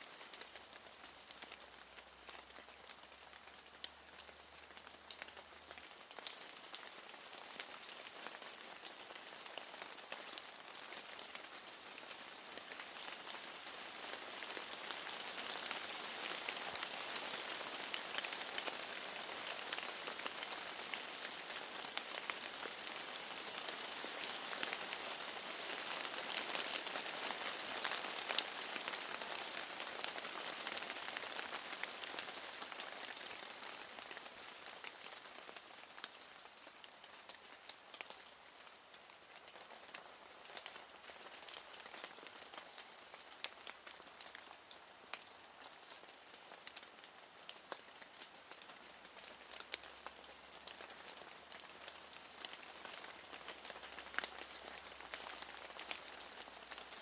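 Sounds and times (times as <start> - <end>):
rain falling: 0.0 - 57.0
raindrops ticking: 0.1 - 22.9, 23.5 - 57.0.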